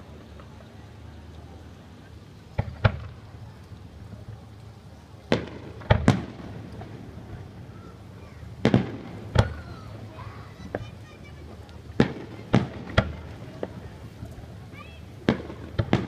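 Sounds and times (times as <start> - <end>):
fireworks bursting with bangs: 2.4 - 16.0.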